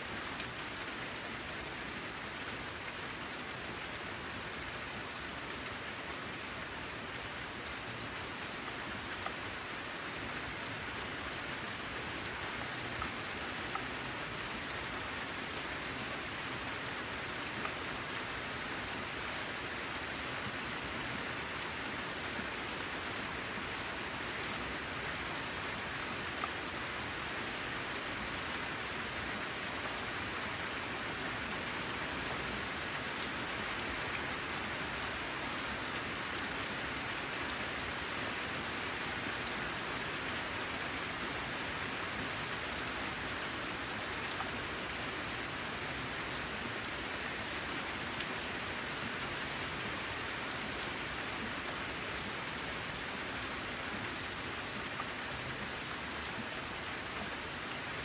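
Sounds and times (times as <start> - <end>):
rain on a metal roof: 0.0 - 58.0.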